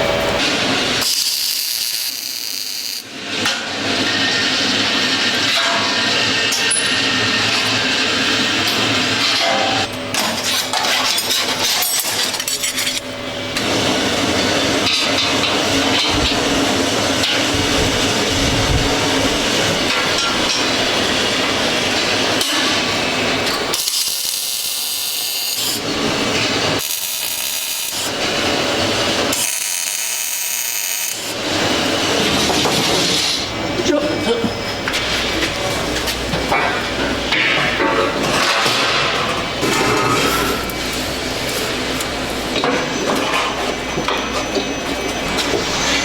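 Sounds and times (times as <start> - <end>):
workshop tool noise: 0.0 - 46.0.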